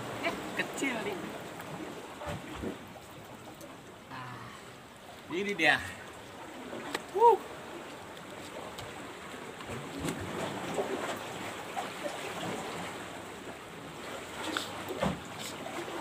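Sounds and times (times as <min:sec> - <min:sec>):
sea waves on rocky shore: 0:00.0 - 0:16.0.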